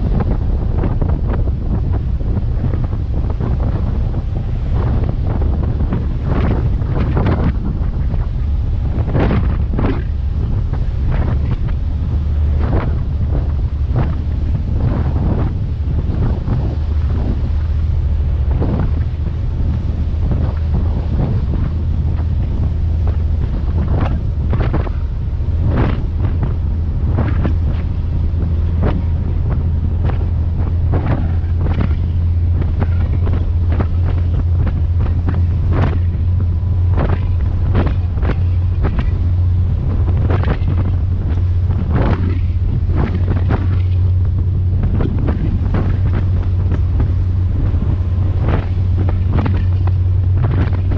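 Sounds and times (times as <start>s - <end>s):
boat engine drone: 0.0s - 50.9s
wind buffeting microphone: 0.0s - 50.9s.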